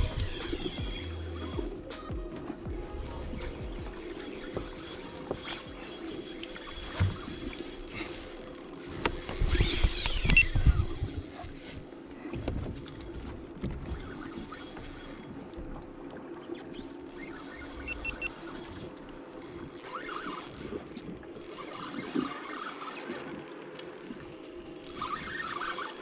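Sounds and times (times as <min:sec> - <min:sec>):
fishing reel ticking and whirring: 0:00.0 - 0:26.0.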